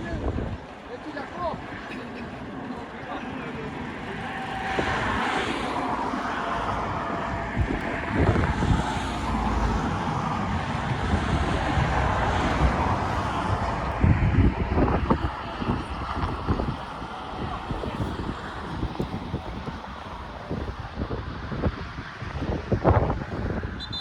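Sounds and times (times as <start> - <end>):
wind buffeting microphone: 0.0 - 23.9
outdoor background noise: 0.0 - 24.0.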